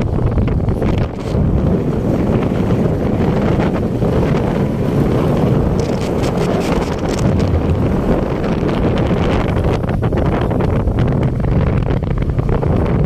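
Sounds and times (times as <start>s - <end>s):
quad bike engine running: 0.0s - 13.0s
wind buffeting microphone: 0.0s - 13.0s.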